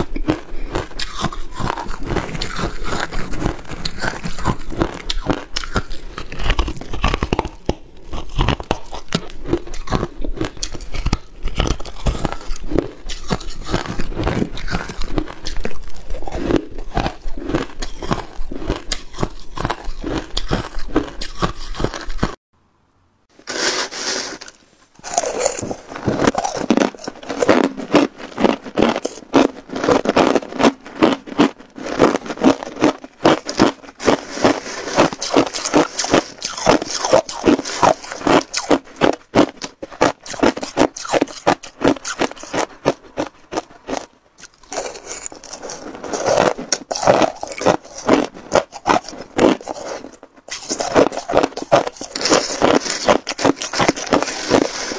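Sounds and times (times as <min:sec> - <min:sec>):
ice being chewed: 0:00.0 - 0:22.4, 0:24.1 - 0:54.9.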